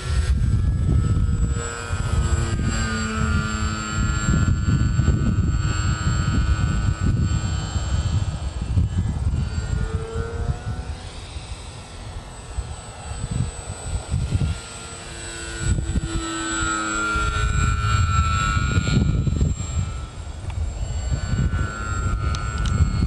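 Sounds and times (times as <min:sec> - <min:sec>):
gusty low rumble: 0:00.0 - 0:14.6, 0:15.6 - 0:23.0
propeller airplane engine droning: 0:00.0 - 0:23.0.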